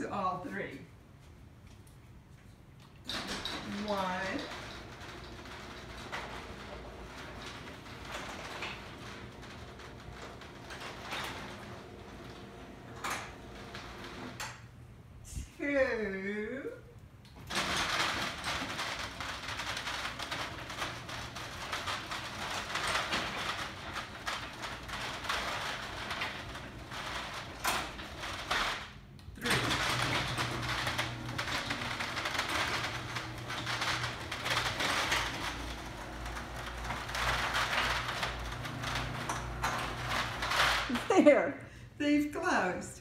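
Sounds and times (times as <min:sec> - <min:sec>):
garage door opener rattling: 0:02.9 - 0:15.1, 0:17.0 - 0:41.3.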